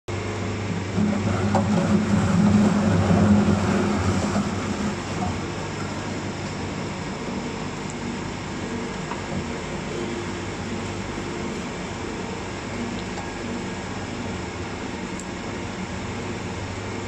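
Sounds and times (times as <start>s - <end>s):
juicer motor hum: 0.2s - 17.0s.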